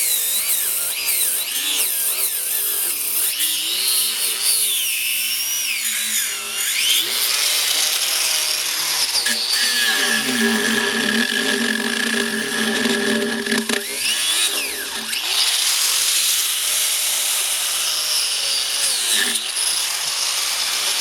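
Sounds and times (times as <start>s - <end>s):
angle grinder cutting rubber: 0.0s - 21.0s.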